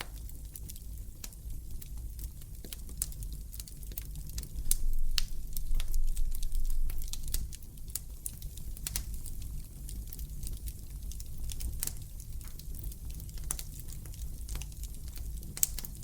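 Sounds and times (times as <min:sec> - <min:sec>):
low rumble of flame: 0:00.0 - 0:16.0
wood fire crackling: 0:00.0 - 0:16.0.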